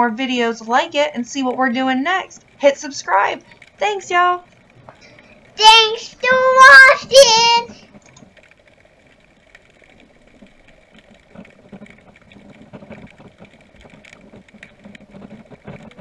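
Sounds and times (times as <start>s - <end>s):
low underwater hum: 0.0s - 16.0s.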